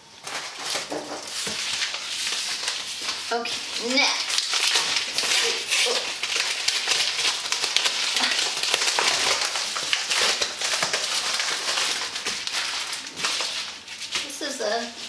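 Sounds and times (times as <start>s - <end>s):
paper mailer crinkling: 0.0s - 15.0s.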